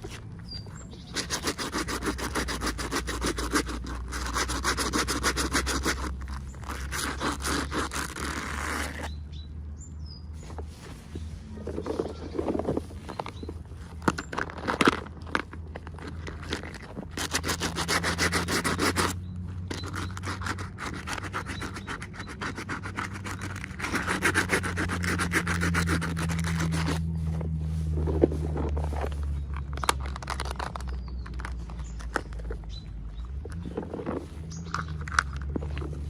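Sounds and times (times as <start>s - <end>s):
hands scratching toy packaging: 0.0s - 9.1s, 11.7s - 27.3s, 28.0s - 36.0s.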